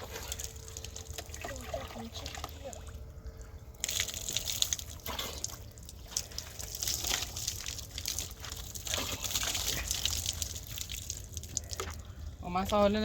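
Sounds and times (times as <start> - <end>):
water splashing and pouring: 0.0 - 13.0.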